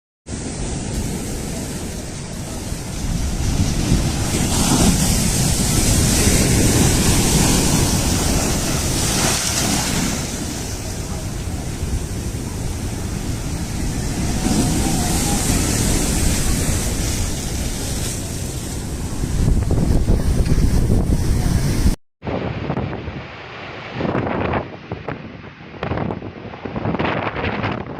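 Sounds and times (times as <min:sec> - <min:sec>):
strong wind buffeting microphone: 0:00.5 - 0:27.9.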